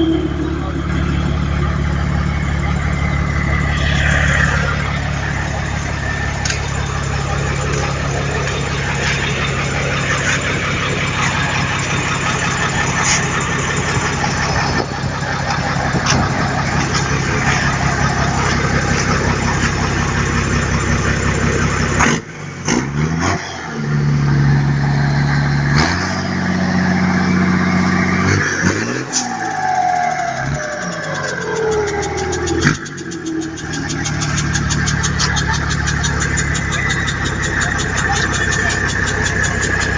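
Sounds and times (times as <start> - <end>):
turbocharger whistle: 0.0 - 21.3, 28.2 - 39.9
truck diesel engine revving: 0.0 - 39.9.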